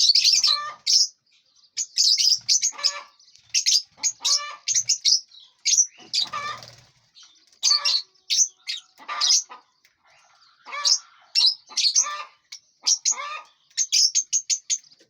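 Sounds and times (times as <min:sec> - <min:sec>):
lovebirds chirping and squawking: 0:00.0 - 0:15.0.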